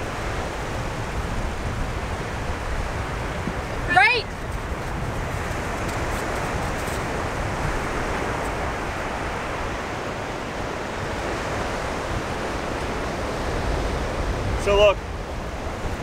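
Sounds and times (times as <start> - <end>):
ocean surf washing onto beach: 0.0 - 16.0
wind: 0.0 - 16.0.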